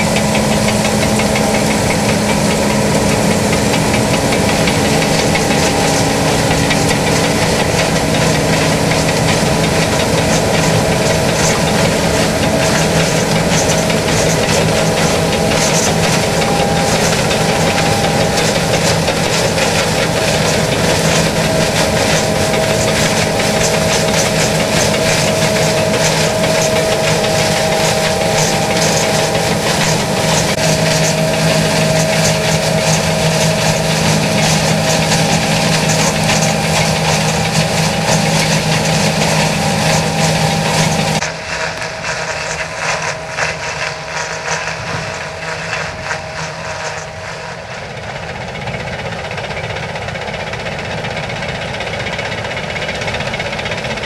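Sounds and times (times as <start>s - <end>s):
combine harvester engine hum: 0.0s - 54.0s
whir of harvesting machinery: 0.0s - 54.0s.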